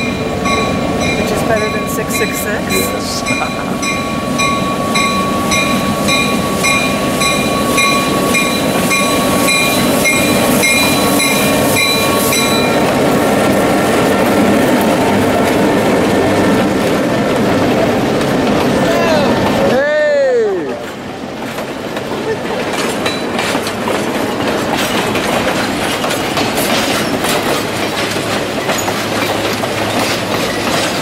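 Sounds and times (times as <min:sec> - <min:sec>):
train rolling past: 0:00.0 - 0:31.0.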